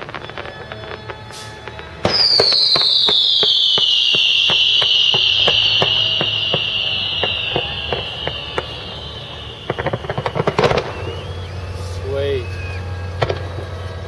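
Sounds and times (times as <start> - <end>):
distant firework cracks: 0.0 - 14.0
whistling firework: 0.0 - 14.0.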